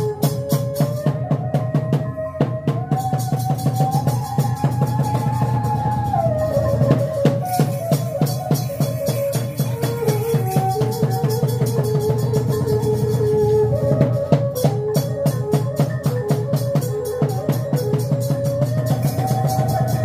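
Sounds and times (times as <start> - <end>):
fast steady drum beat: 0.0 - 20.0
held melody line: 0.0 - 20.0.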